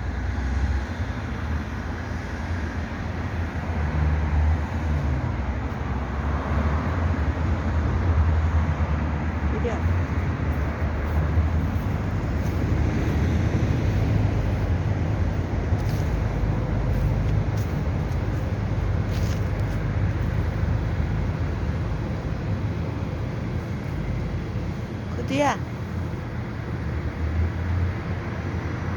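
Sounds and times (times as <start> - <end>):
low rumbling background noise: 0.0 - 28.9.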